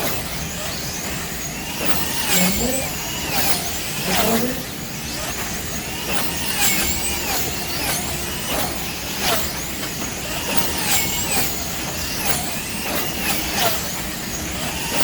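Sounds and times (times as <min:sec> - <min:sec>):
slot car motors whining: 0:00.0 - 0:15.0.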